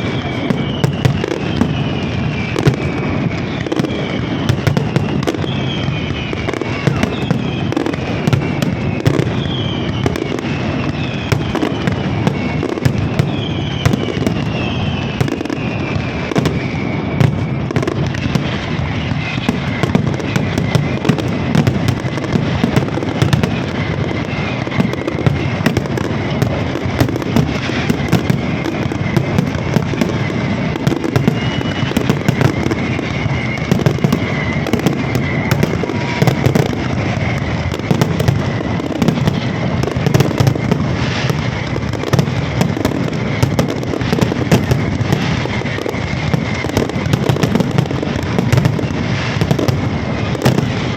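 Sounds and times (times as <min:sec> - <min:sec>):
firework whistles falling in pitch: 0:00.0 - 0:50.9
fireworks crackling and popping: 0:00.0 - 0:50.9.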